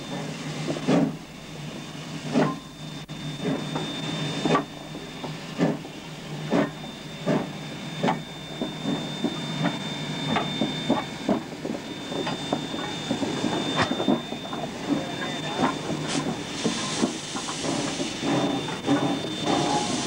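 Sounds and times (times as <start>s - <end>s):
steam hissing: 0.0s - 20.0s
steam locomotive exhaust chuffs: 0.0s - 20.0s.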